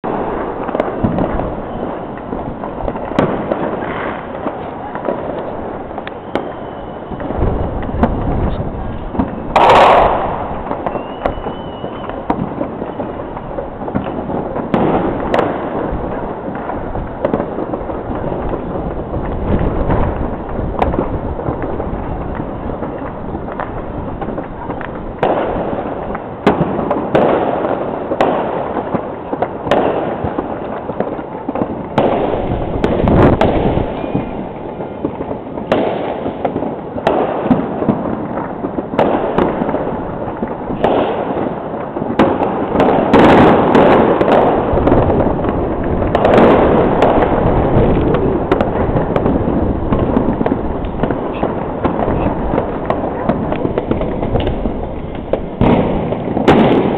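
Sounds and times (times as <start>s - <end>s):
fireworks and firecrackers bangs: 0.0s - 56.9s.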